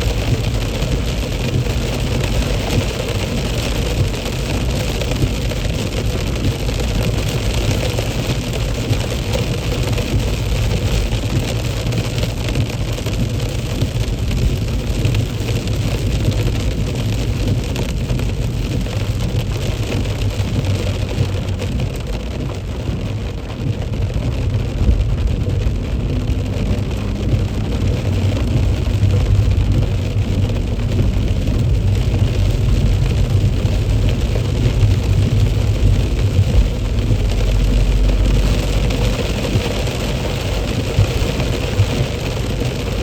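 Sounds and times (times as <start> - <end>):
car engine and tyres rumbling: 0.0 - 43.0
rain hissing: 0.0 - 43.0.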